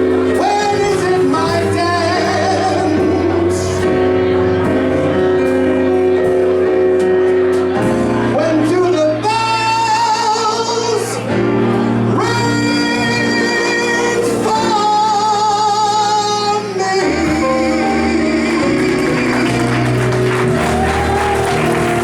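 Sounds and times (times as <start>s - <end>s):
person singing with vibrato: 0.0s - 6.6s, 8.2s - 22.0s
electric keyboard chords: 0.0s - 22.0s.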